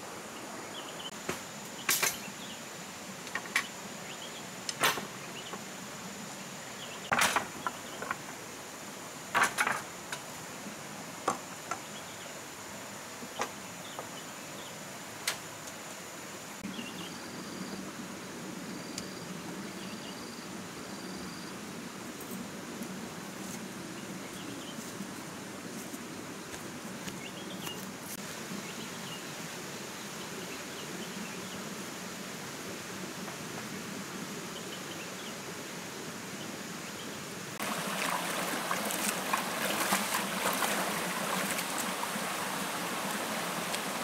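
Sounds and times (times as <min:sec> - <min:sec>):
insect drone: 0:00.0 - 0:44.0.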